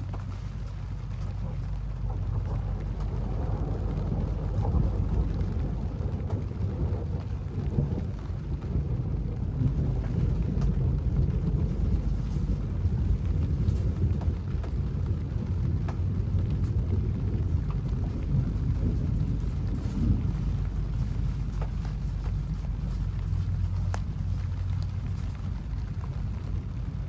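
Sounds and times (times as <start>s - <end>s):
raindrops tapping: 0.0s - 27.0s
wind and rain rumble: 0.0s - 27.0s.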